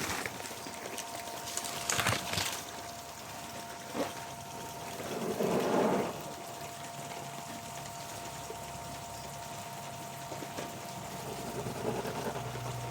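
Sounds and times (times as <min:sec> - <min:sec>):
sprinklers spraying water: 0:00.0 - 0:12.9
steady high hum: 0:00.0 - 0:12.9.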